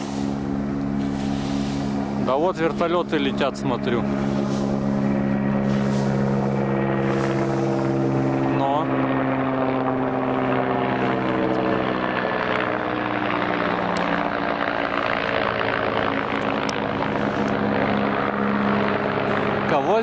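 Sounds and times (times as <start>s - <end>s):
helicopter flying overhead: 0.0s - 20.0s.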